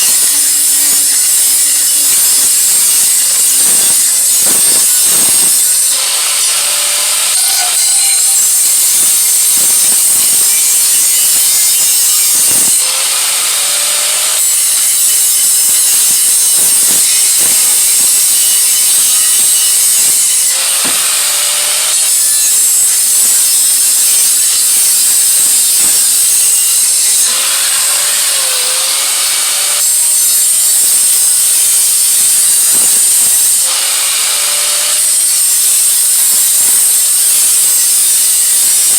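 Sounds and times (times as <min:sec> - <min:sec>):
abrasive grinding on steel pipe: 0:00.0 - 0:38.9.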